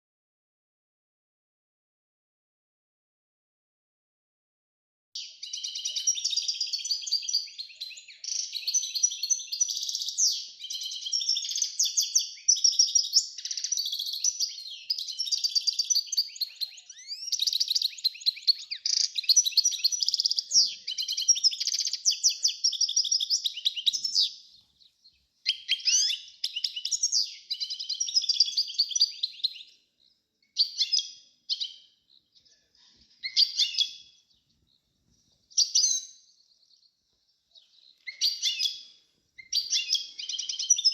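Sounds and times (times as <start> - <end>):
songbirds chirping and twittering: 5.2 - 40.9.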